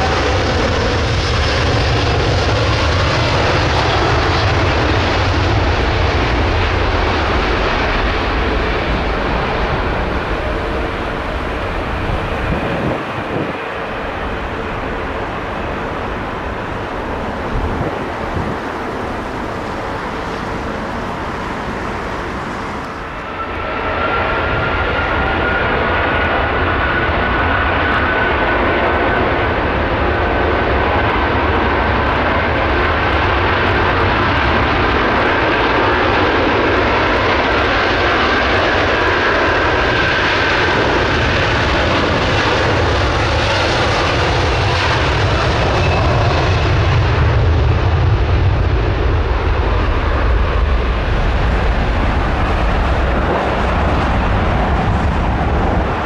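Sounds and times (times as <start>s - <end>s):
rising high engine whine: 0.0s - 31.4s, 38.2s - 56.0s.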